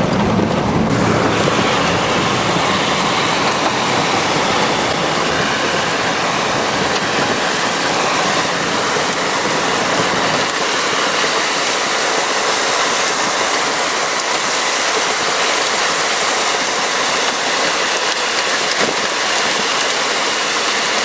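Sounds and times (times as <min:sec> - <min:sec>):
heavy rain on a vehicle: 0:00.0 - 0:21.0.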